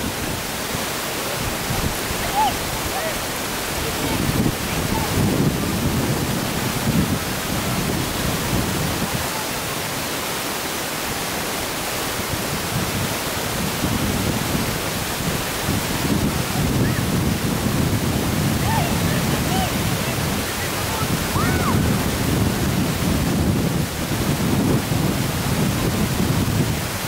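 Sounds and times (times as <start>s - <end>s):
wind on microphone: 0.0s - 10.2s, 11.0s - 27.0s.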